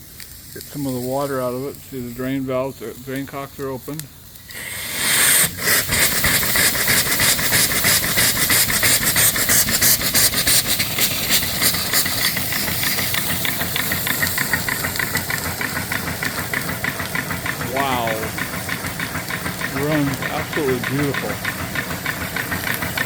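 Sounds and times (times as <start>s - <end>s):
steam engine chuffing: 0.1s - 23.0s.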